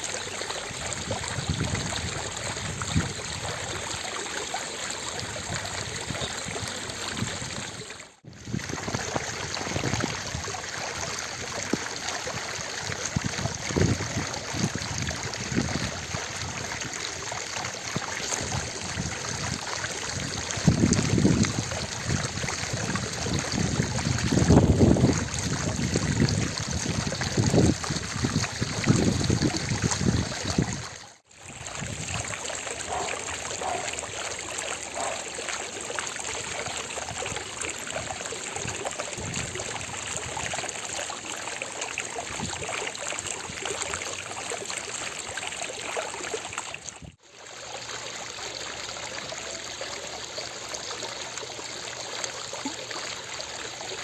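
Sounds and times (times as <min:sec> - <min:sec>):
water fountain splashing: 0:00.0 - 0:54.0.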